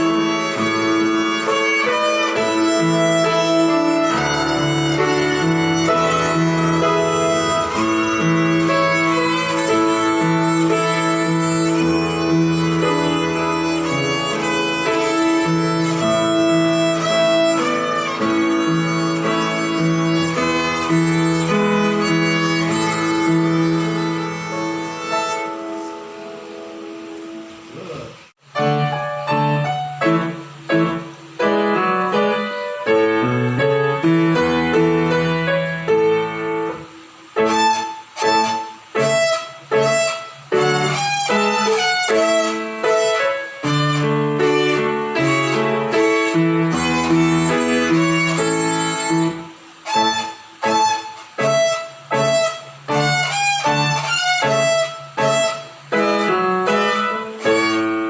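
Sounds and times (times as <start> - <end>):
violin melody: 0.0 - 27.3, 28.4 - 58.0
piano accompaniment: 0.0 - 58.0.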